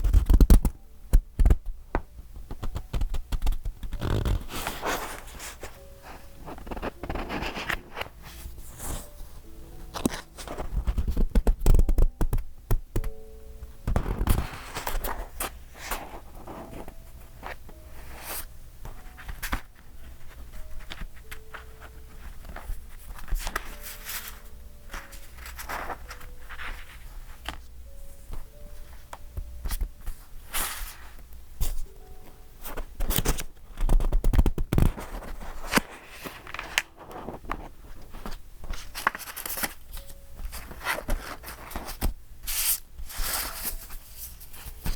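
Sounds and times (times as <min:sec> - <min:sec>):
paper pages rustling: 0:02.6 - 0:12.2, 0:13.9 - 0:32.0, 0:32.6 - 0:44.9.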